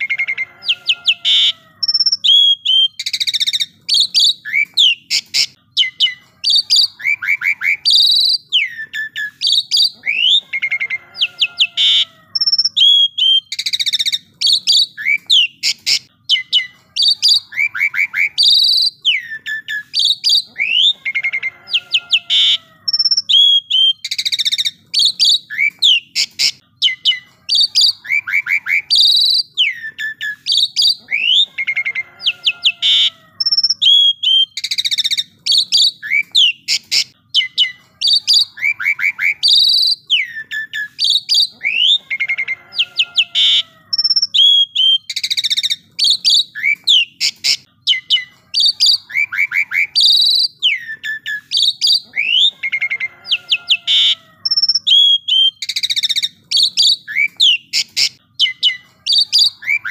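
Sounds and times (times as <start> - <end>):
starling singing: 0.0 - 59.9.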